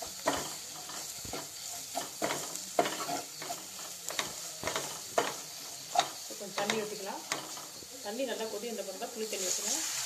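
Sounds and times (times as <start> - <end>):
masala sizzling in oil: 0.0 - 10.0
spatula scraping a pan: 0.0 - 10.0.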